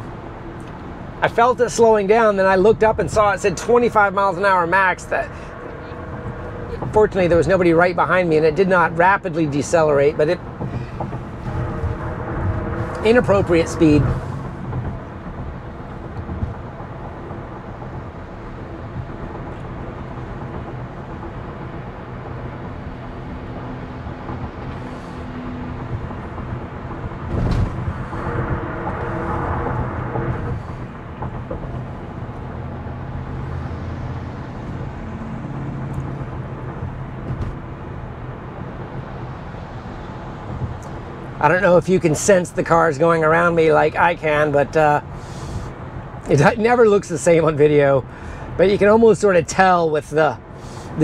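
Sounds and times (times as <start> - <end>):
tyre and road noise in car: 0.0 - 51.0.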